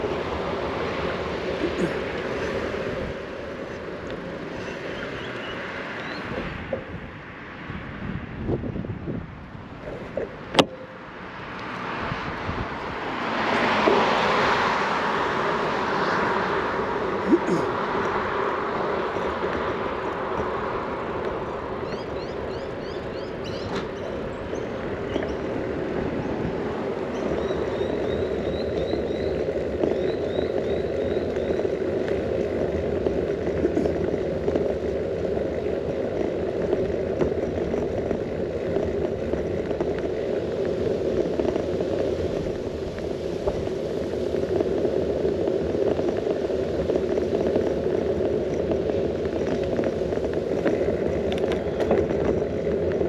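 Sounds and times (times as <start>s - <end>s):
wind on microphone: 0.0s - 10.8s, 11.8s - 53.0s
bicycle rolling on asphalt: 0.0s - 53.0s.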